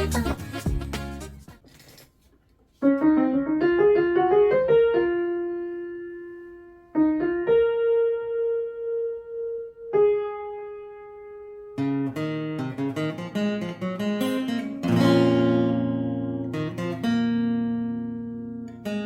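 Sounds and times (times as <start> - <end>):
piano melody: 2.8 - 19.0.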